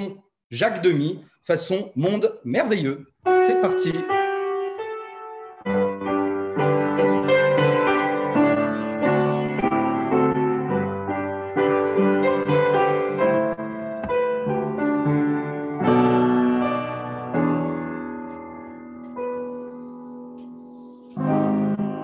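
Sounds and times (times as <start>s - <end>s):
piano music: 2.8s - 22.0s.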